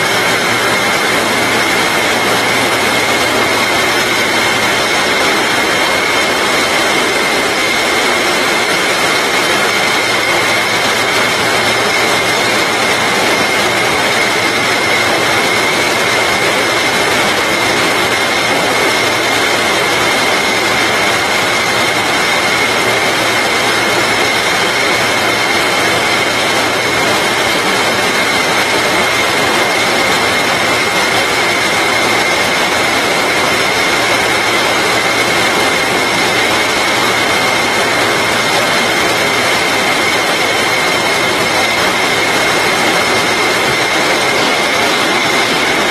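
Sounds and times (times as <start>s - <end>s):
machine high-pitched whine: 0.0s - 45.9s
machine low hum: 0.0s - 45.9s.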